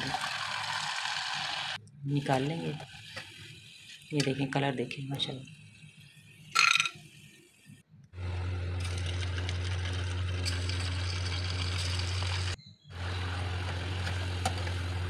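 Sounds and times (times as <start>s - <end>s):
hot oil sizzling: 0.0s - 6.0s, 8.2s - 15.0s.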